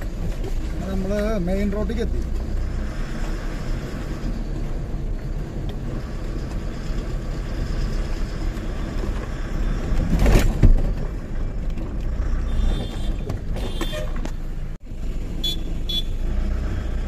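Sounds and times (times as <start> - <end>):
truck diesel engine rumble: 0.0 - 17.0.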